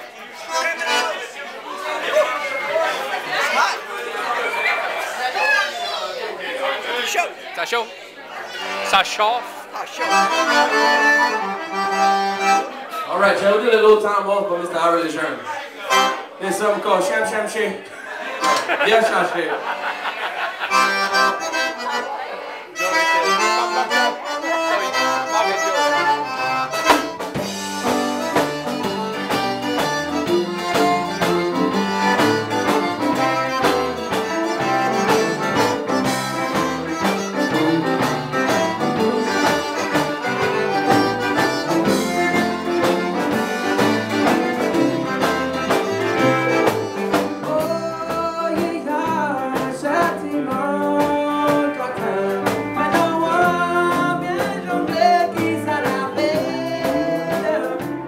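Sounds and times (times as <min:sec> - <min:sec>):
live band with accordion: 0:00.0 - 0:02.2, 0:07.1 - 0:13.6, 0:15.8 - 0:17.1, 0:17.9 - 0:58.0.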